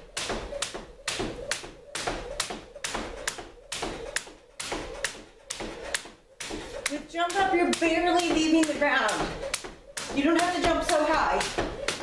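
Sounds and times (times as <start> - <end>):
jump rope slapping wooden floor: 0.0 - 12.0.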